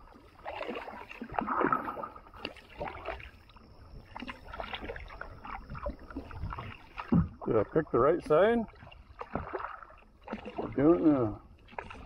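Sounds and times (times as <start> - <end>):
kayak paddle splashing water: 0.0 - 12.0.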